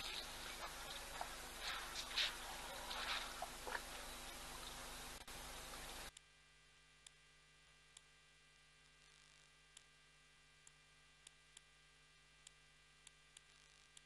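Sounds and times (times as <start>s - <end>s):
faint steady hum: 0.0s - 14.0s
outdoor background hiss: 0.0s - 14.0s.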